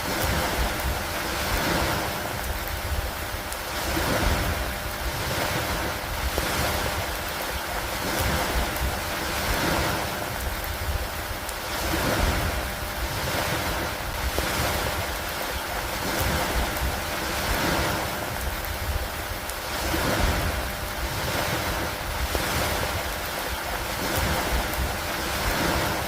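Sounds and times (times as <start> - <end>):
rain: 0.0 - 26.0
water washing against a dock: 0.0 - 26.0.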